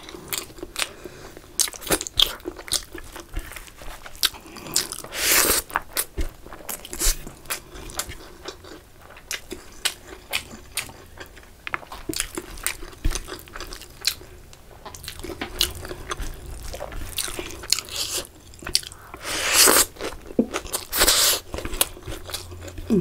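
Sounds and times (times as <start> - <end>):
close-miked chewing: 0.0 - 23.0.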